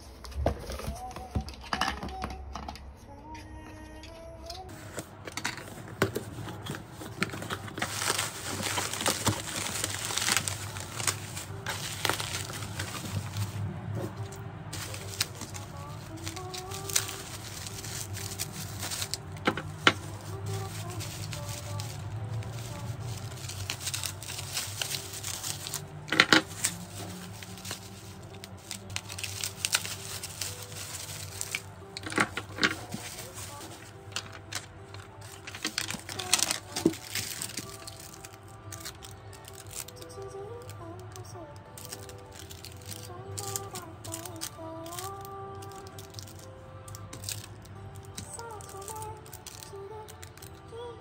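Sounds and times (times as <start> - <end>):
bubble wrap crinkling: 4.7 - 51.0.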